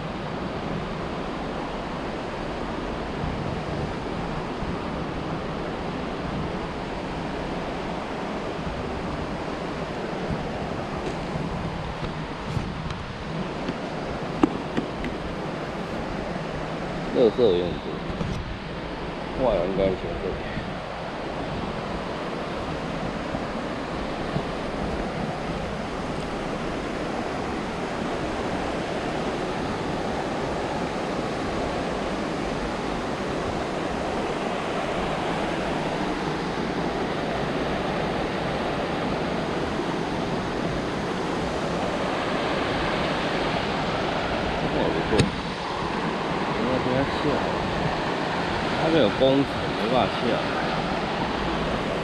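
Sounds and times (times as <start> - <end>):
river water rushing: 0.0 - 52.0
wind on microphone: 0.0 - 52.0.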